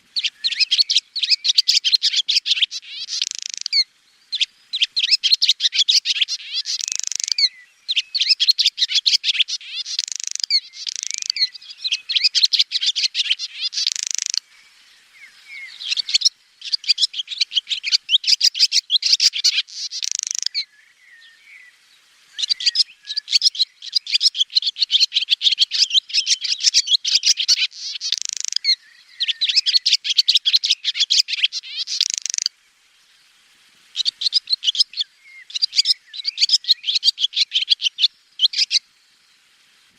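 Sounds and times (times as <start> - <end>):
swallows twittering: 0.0 - 21.8, 22.4 - 32.5, 33.9 - 38.8.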